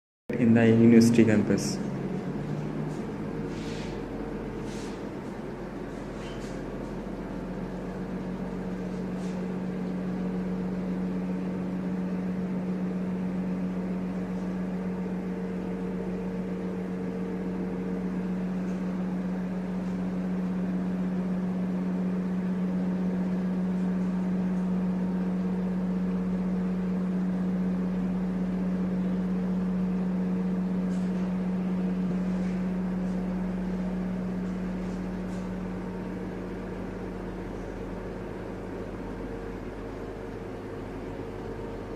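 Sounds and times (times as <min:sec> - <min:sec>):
machine hum: 0:00.3 - 0:41.9.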